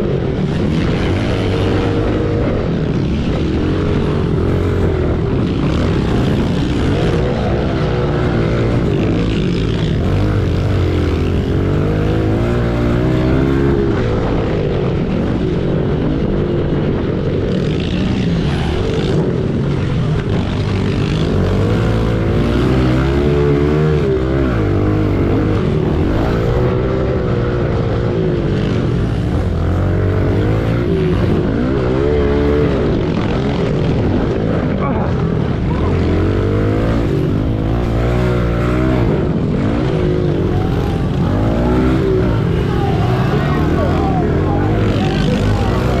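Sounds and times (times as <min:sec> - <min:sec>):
pit bike engine revving: 0:00.0 - 0:15.4, 0:16.0 - 0:46.0.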